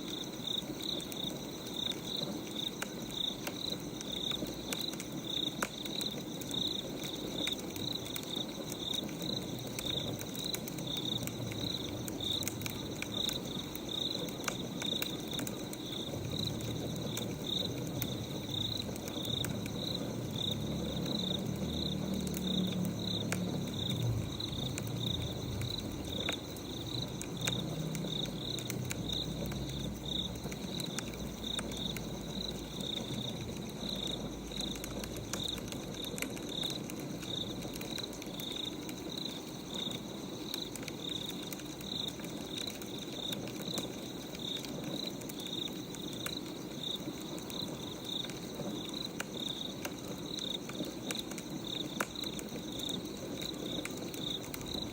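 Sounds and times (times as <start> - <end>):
crickets chirping: 0.0 - 54.9
light crackles and clicks: 0.0 - 54.9.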